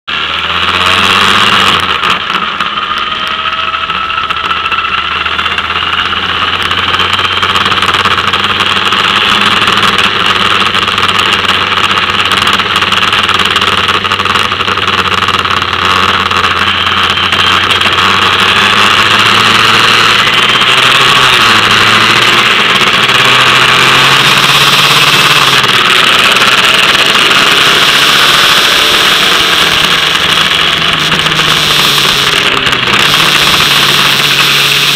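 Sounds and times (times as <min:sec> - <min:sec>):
race car engine running: 0:00.0 - 0:34.9.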